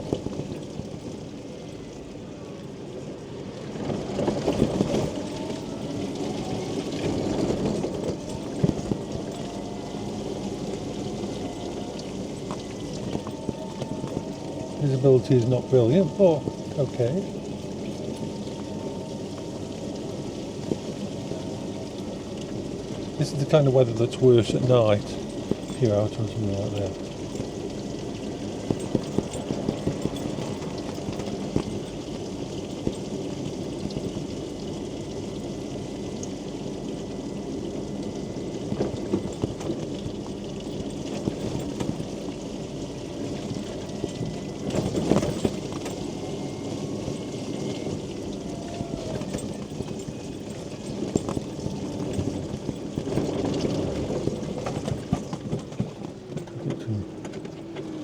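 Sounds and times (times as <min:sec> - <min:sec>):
rain pattering on a canopy: 0:00.0 - 0:58.0.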